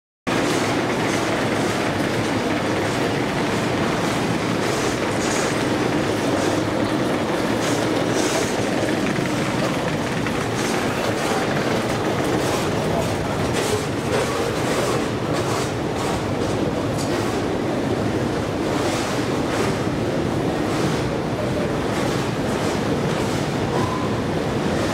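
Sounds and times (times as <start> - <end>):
escalator steps clicking and rattling: 0.3 - 23.8.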